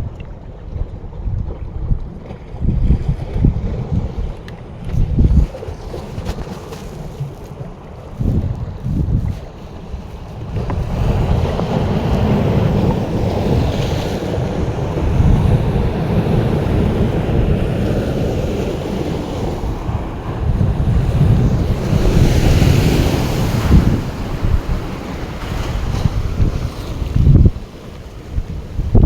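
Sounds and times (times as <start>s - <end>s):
wind buffeting microphone: 0.0s - 29.0s
surf washing on shore: 2.2s - 29.0s.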